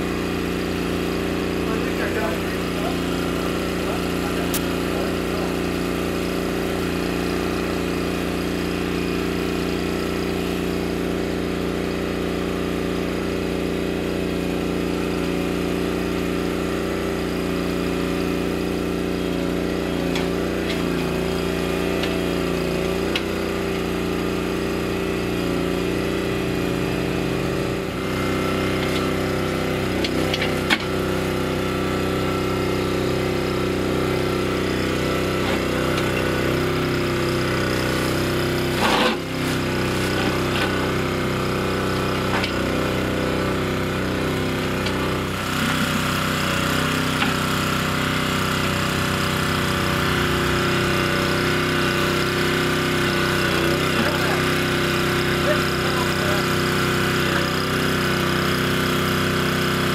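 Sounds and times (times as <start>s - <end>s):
small backhoe engine running: 0.0s - 59.9s.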